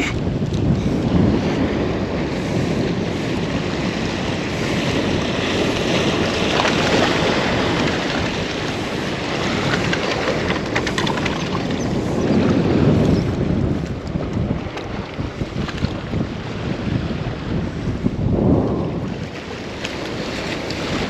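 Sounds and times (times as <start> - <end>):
waves washing on shore: 0.0 - 21.0
wind buffeting microphone: 0.0 - 21.0.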